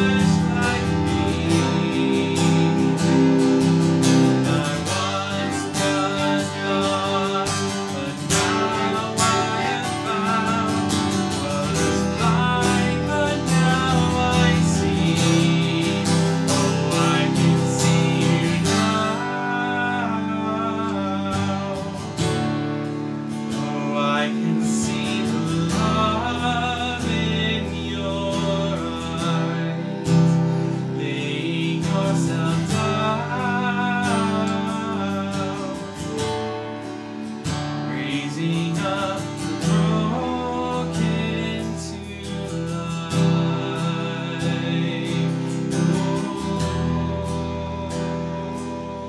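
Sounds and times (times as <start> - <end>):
man singing: 0.0 - 49.0
strummed acoustic guitar: 0.0 - 49.0.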